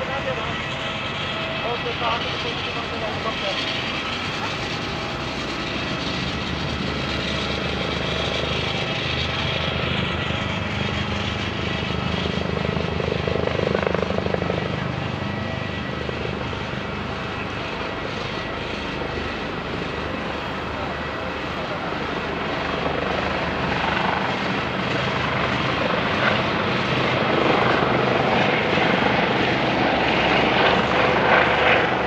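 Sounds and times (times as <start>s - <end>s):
helicopter rotor chopping: 0.0s - 32.0s.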